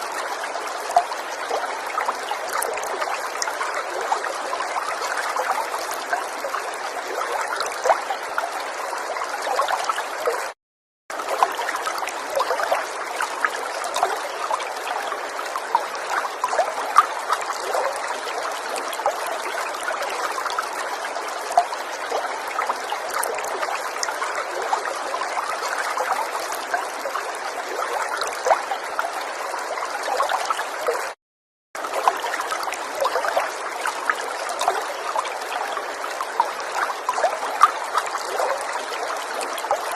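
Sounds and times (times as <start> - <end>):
river water babbling: 0.0 - 10.5, 11.1 - 31.2, 31.8 - 39.9.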